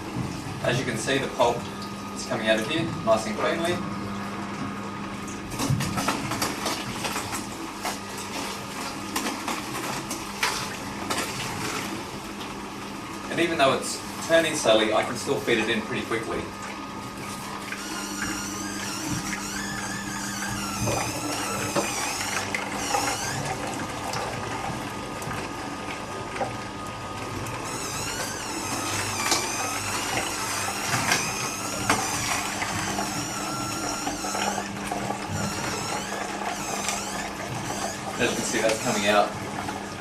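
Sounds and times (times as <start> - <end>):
juicer motor hum: 0.0 - 40.0
juicer squeaking and crunching produce: 0.0 - 40.0.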